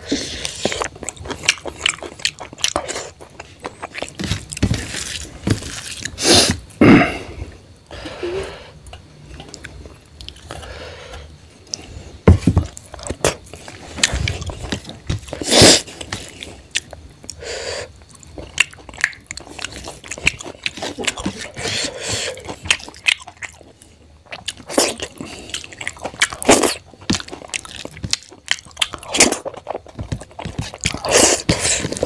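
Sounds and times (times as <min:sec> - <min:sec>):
person chewing food: 0:00.0 - 0:07.6, 0:08.3 - 0:32.0.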